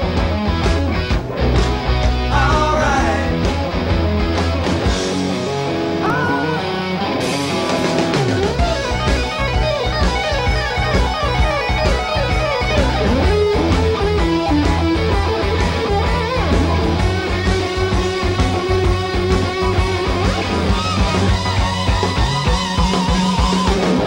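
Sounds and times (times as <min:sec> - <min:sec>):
rock song with electric guitar: 0:00.0 - 0:24.0.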